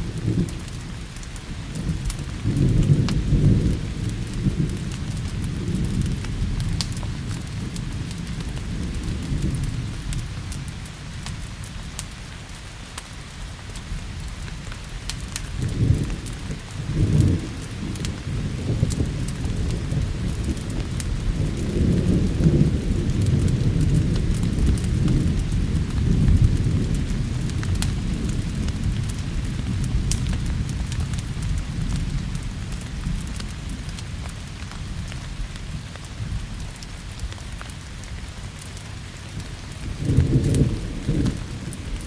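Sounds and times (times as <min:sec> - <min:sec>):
thunder rumbling: 0:00.0 - 0:11.3, 0:15.3 - 0:42.0
fire crackling: 0:00.0 - 0:42.0
steady rain: 0:00.0 - 0:42.0.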